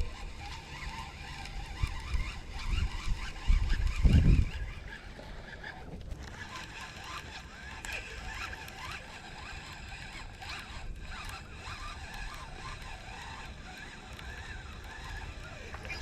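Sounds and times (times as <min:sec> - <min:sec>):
fishing reel cranking: 0:00.0 - 0:16.0.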